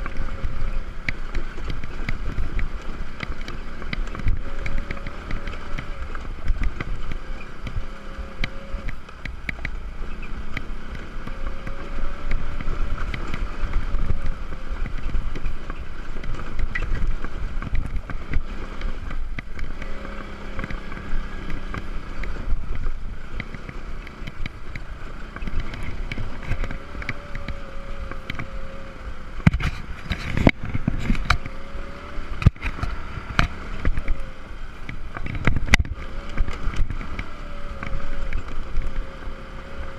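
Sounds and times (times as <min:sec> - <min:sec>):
scooter engine running: 0:00.0 - 0:39.9
wind rumble on microphone: 0:00.0 - 0:39.9.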